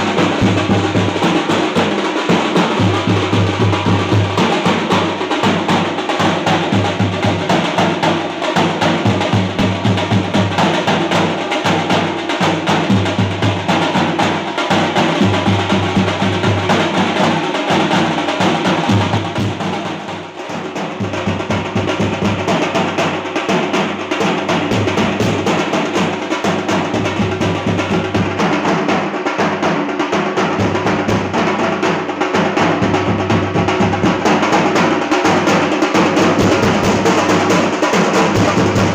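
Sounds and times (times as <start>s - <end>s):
steel drums beaten with sticks: 0.0s - 38.9s.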